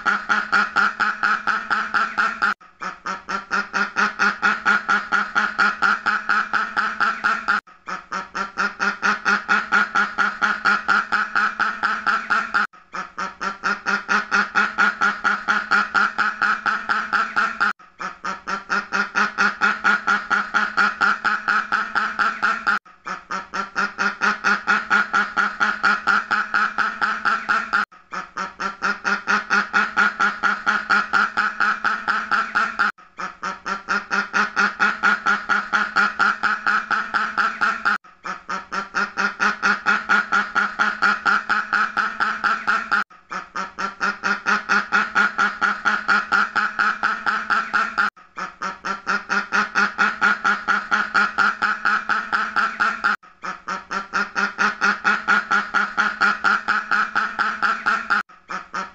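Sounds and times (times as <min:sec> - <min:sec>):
ducks quacking: 0:00.0 - 0:58.9.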